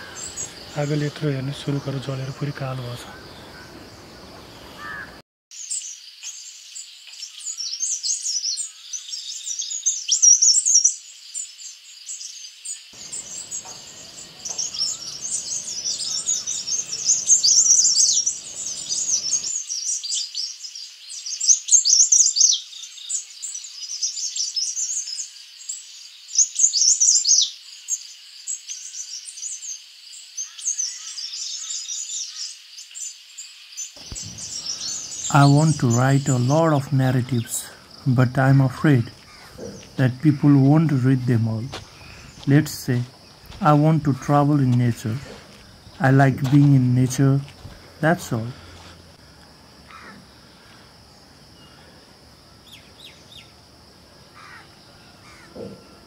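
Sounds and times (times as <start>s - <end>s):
steady high hiss: 0.0s - 8.8s, 9.8s - 21.6s, 22.6s - 56.0s
birds chirping and singing: 0.0s - 11.5s, 12.1s - 29.8s, 30.4s - 49.2s, 49.9s - 53.6s.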